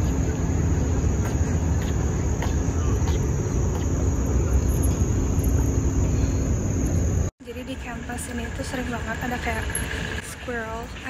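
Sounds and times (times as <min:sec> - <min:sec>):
high insect drone: 0:00.0 - 0:11.0
low outdoor rumble: 0:00.0 - 0:11.0.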